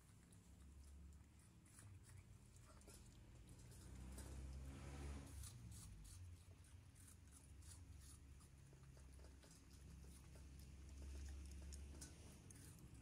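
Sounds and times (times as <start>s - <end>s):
low steady hum: 0.0s - 13.0s
puppy crunching apple: 0.0s - 13.0s.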